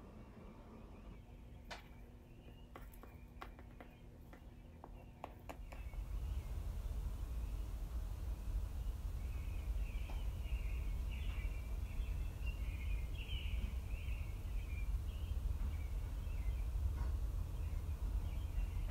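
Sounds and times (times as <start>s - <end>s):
low background rumble: 0.0s - 18.9s.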